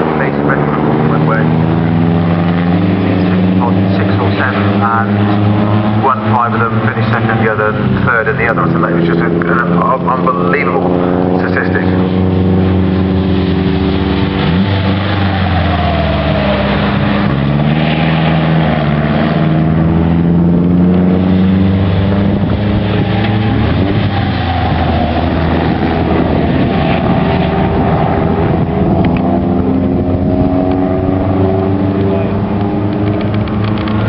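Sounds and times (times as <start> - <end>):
racing car engines: 0.0 - 34.0.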